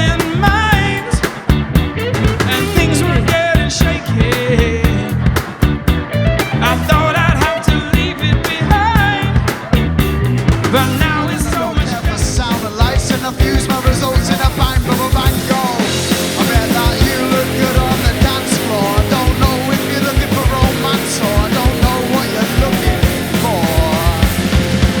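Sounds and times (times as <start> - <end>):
hard-hitting drums: 0.0 - 25.0
live punk rock band playing: 0.0 - 25.0.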